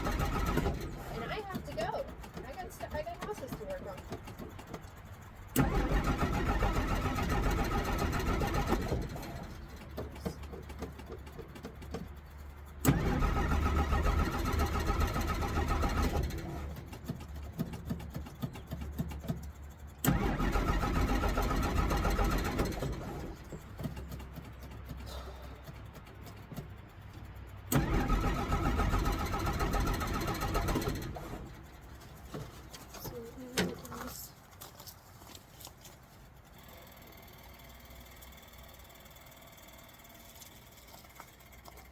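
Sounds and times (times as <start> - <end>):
engine cranking by starter: 0.0 - 34.3, 36.4 - 41.9.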